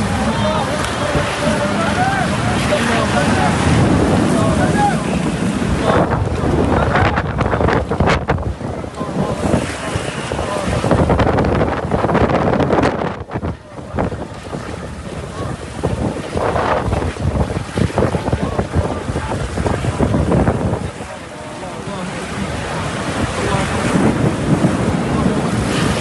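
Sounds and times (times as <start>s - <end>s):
heavy rain pouring: 0.0s - 26.0s
wind buffeting microphone: 0.0s - 26.0s.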